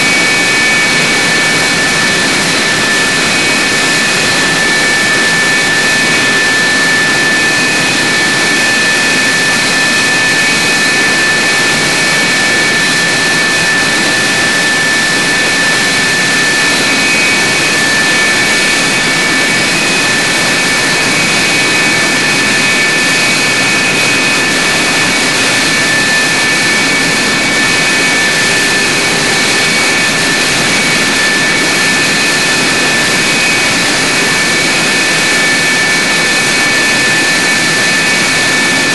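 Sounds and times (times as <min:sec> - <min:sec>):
jet engine rushing with high whine: 0:00.0 - 0:38.9.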